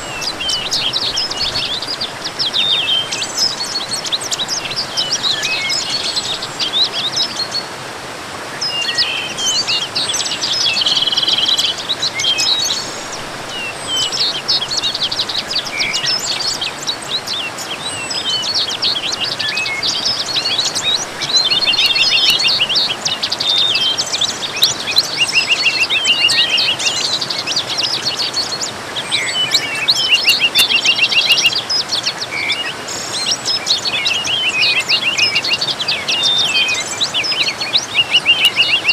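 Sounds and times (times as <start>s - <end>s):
songbirds chirping and trilling: 0.0s - 38.9s
waterfall rushing: 0.0s - 38.9s.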